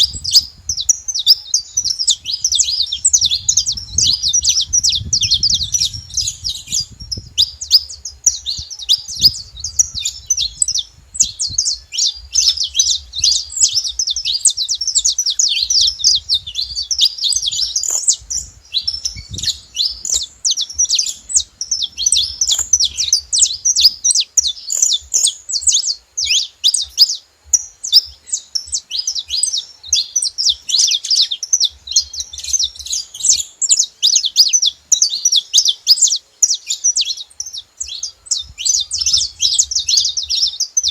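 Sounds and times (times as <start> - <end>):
finches chirping rapidly: 0.0 - 40.9.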